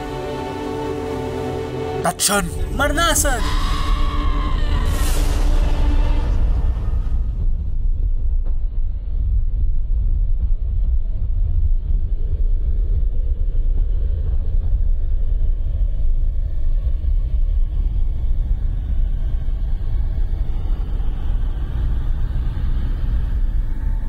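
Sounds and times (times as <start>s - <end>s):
deep steady rumble: 3.4s - 24.0s.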